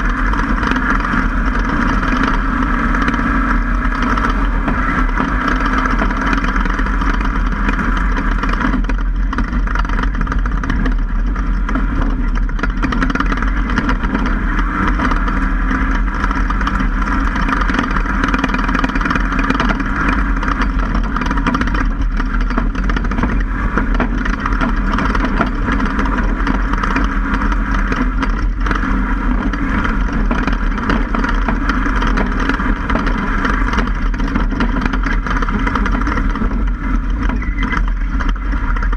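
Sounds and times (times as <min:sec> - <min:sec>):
truck driving on dirt track: 0:00.0 - 0:38.9.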